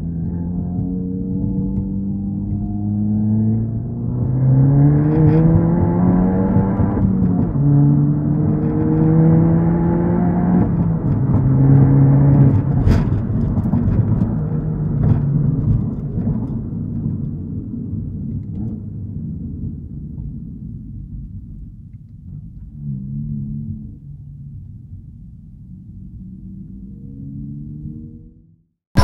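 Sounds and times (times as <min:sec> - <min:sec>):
car engine accelerating: 0:00.0 - 0:17.4, 0:22.3 - 0:29.0.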